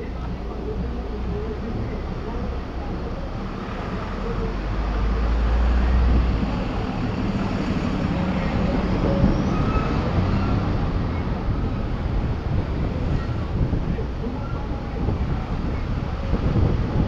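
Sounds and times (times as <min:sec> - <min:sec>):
lorry engine rumbling past: 0:00.0 - 0:17.0
road traffic: 0:00.0 - 0:17.0
wind on microphone: 0:00.0 - 0:17.0.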